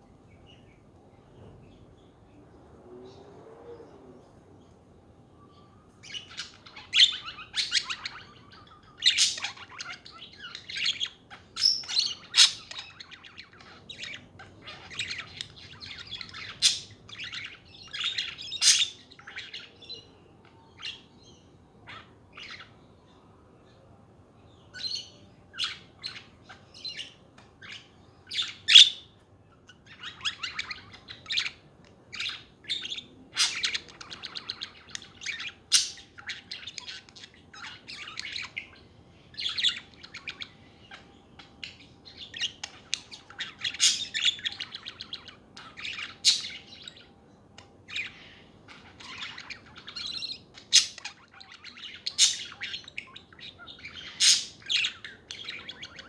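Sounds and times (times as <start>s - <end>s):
budgerigars chirping: 5.9s - 22.8s, 24.6s - 47.1s, 47.8s - 56.0s.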